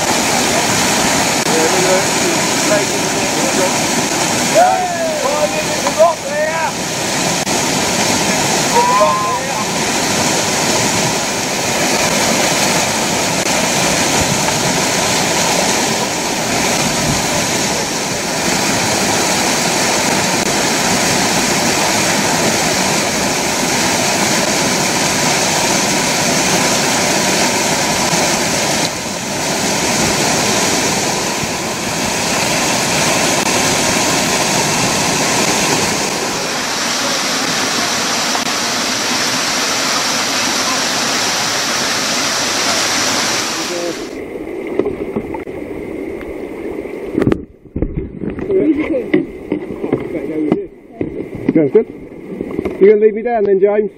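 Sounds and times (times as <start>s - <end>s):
river whitewater rushing over rocks: 0.0s - 47.2s.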